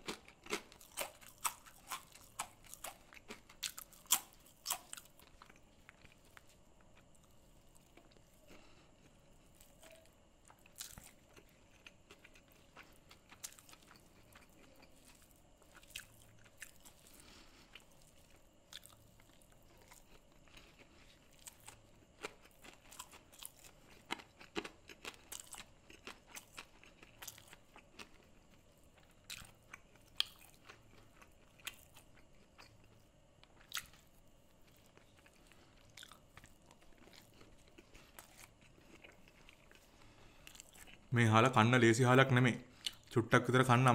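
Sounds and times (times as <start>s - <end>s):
chewing food: 0.0s - 41.1s, 42.7s - 43.2s.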